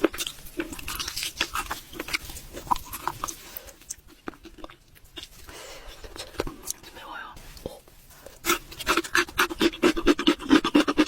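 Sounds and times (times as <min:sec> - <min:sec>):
person chewing crunchy food: 0:00.0 - 0:07.0, 0:07.6 - 0:11.0.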